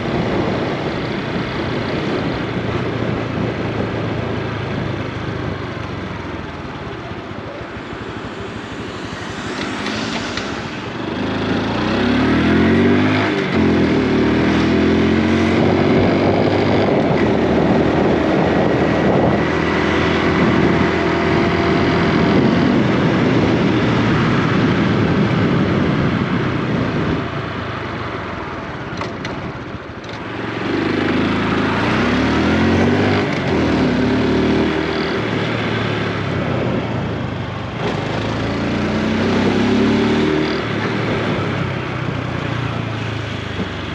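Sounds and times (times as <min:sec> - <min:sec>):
wind and road noise: 0:00.0 - 0:43.9
motorcycle engine accelerating: 0:00.1 - 0:27.2, 0:29.1 - 0:37.2, 0:37.8 - 0:43.9.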